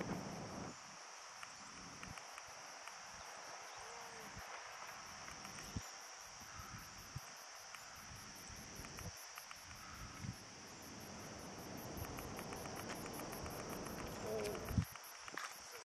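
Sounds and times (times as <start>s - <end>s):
insects buzzing and pulsing: 0.0s - 15.8s.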